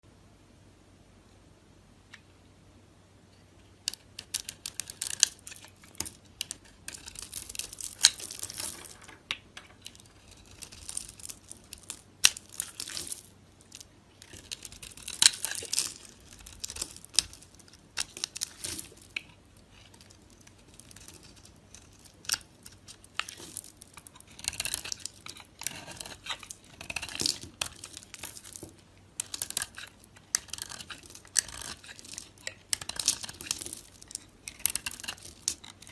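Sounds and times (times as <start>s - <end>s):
knife cutting dry soap: 3.9s - 9.1s, 9.8s - 20.2s, 20.8s - 28.6s, 29.2s - 35.9s.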